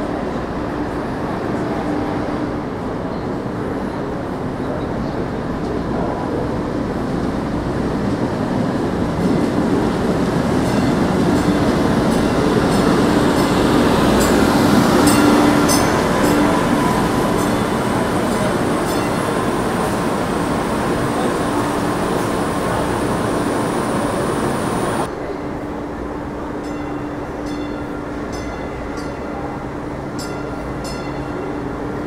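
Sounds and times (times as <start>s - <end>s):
passenger train passing: 0.0s - 32.0s.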